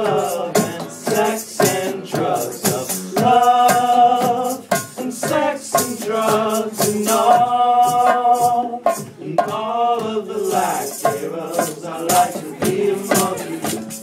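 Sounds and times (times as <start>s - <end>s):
bongos: 0.0s - 14.0s
person singing: 0.0s - 14.0s
strummed acoustic guitars: 0.0s - 14.0s.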